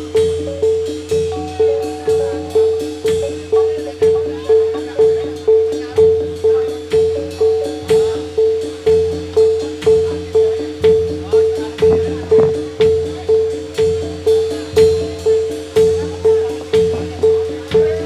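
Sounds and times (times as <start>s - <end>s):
drum beats: 0.0s - 18.0s.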